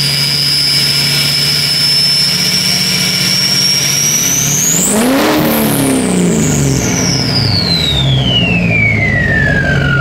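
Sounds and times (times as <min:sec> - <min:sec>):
diesel engine revving: 0:00.0 - 0:10.0
turbo whistle: 0:00.0 - 0:10.0.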